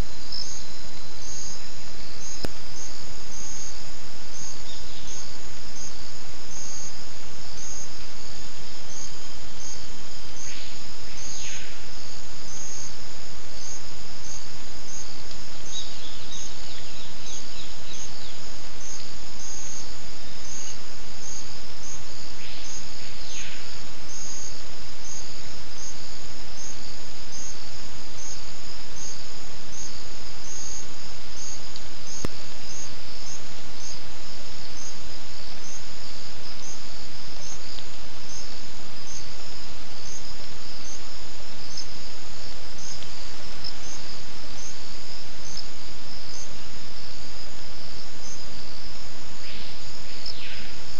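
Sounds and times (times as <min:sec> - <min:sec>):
constant hiss: 0:00.0 - 0:50.9
insects chirping: 0:00.0 - 0:50.9.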